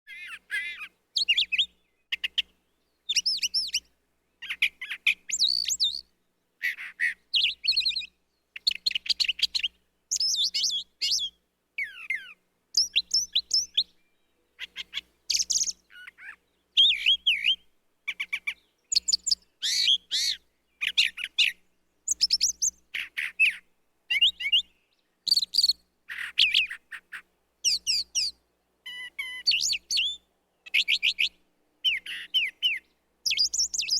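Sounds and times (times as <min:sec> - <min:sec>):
bird singing varied phrases: 0:00.1 - 0:33.9.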